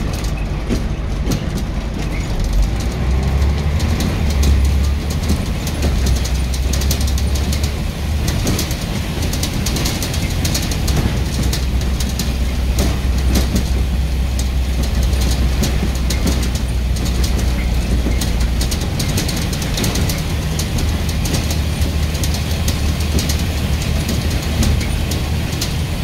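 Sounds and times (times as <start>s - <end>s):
bus diesel engine drone: 0.0s - 26.0s
rattling clicks: 0.0s - 26.0s.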